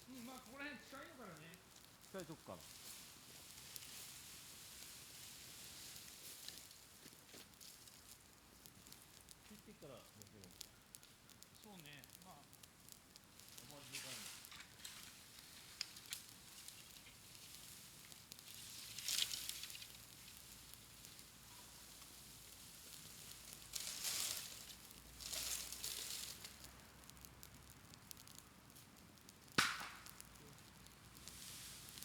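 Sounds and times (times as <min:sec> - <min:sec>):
sharp crack: 0:00.0 - 0:02.8, 0:05.7 - 0:32.0
bonfire crackling: 0:00.0 - 0:32.0.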